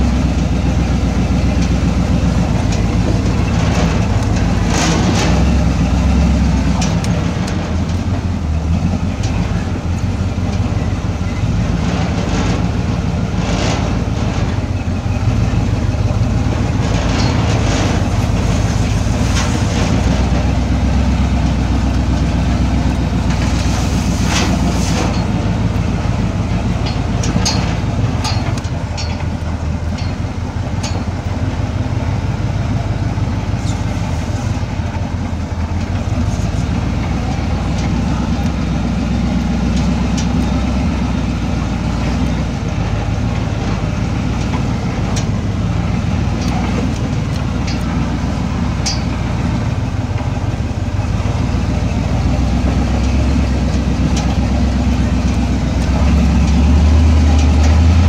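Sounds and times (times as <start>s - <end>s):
clicks and knocks over bumps: 0.0s - 58.0s
off-road vehicle engine rumble: 0.0s - 58.0s.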